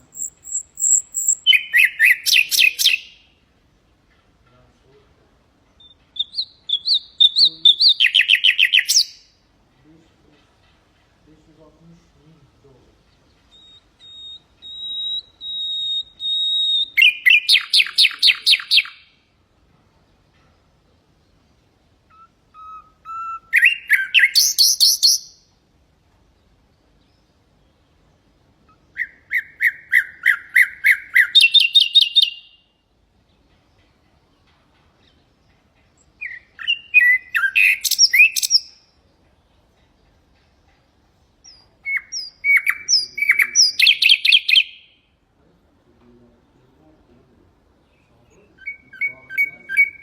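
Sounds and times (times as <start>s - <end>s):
nightingale singing: 0.0s - 19.4s, 20.0s - 50.0s.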